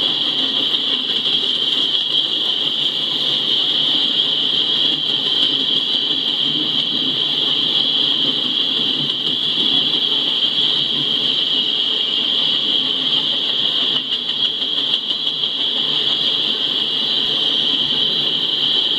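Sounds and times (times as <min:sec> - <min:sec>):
high-pitched hiss: 0:00.0 - 0:18.9
rail cars rolling with low rumble: 0:00.0 - 0:18.9.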